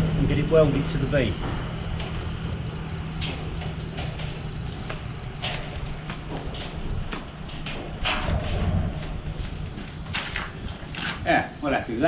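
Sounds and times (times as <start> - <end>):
low rumble: 0.0 - 11.1
crickets trilling: 0.0 - 12.0
scattered clicks and knocks: 1.4 - 11.3.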